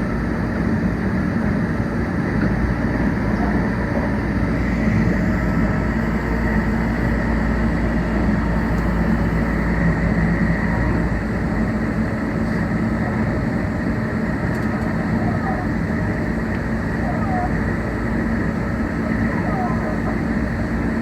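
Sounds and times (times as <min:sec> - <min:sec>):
faint train motor hum: 0:00.0 - 0:21.0.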